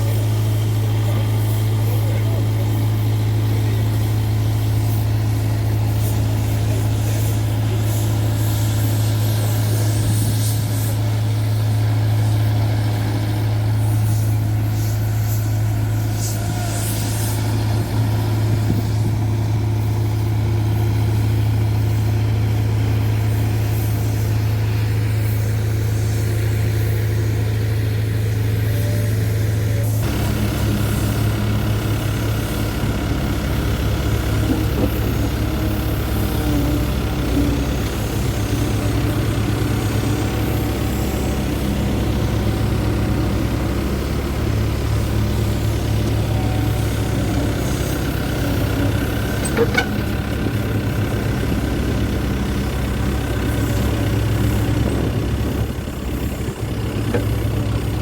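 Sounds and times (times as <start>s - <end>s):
road roller engine humming: 0.0s - 58.0s.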